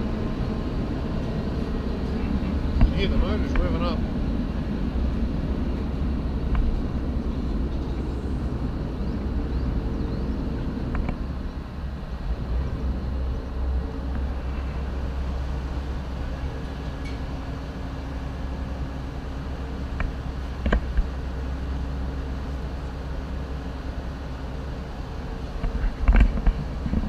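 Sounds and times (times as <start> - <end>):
ship engines droning: 0.0 - 27.0.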